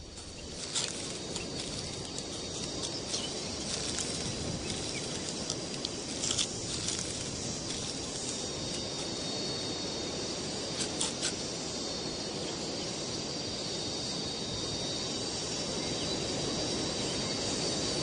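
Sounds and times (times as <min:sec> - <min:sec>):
faint insect-like high tones: 0:00.0 - 0:18.0
steady noisy background: 0:00.0 - 0:18.0.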